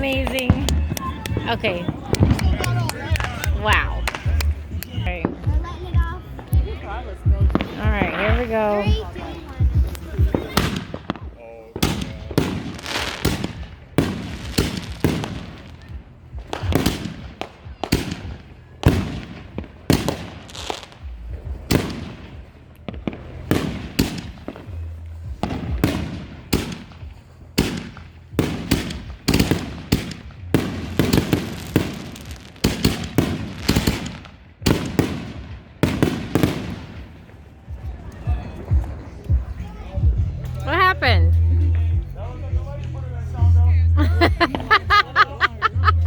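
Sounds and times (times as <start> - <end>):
fireworks sharp bangs: 0.0 - 41.8.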